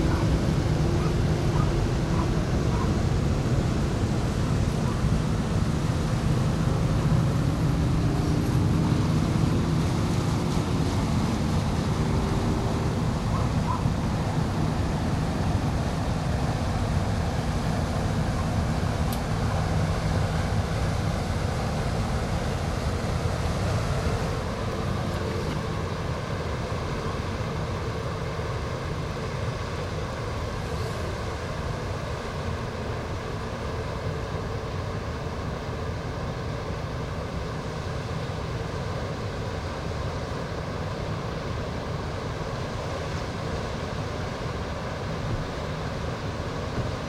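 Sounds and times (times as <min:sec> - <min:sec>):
ferry engine drone: 0:00.0 - 0:47.0.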